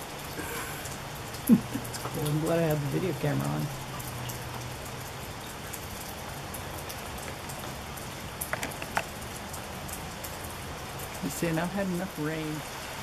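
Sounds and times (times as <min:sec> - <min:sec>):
raindrops ticking on surfaces: 0:00.0 - 0:13.0
steady rain: 0:00.0 - 0:13.0.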